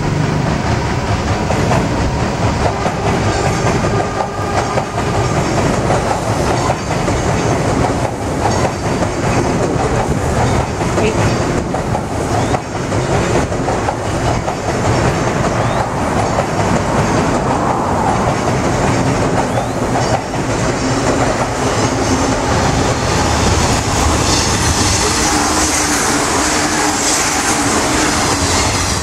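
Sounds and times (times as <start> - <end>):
train rumbling across bridge: 0.0 - 29.0
train wheels clattering: 0.1 - 29.0.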